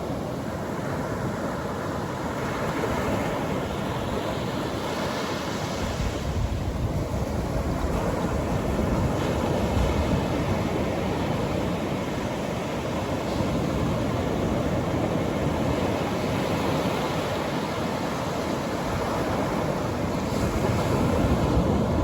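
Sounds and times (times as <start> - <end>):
surf breaking on beach: 2.4 - 22.0.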